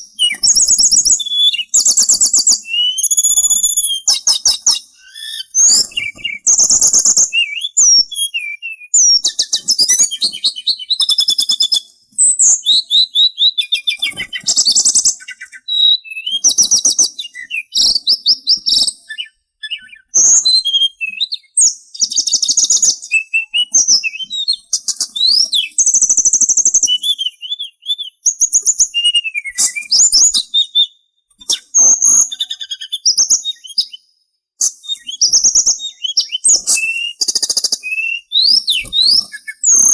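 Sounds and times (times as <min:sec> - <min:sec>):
songbird singing trills and chirps: 0:00.0 - 0:39.9.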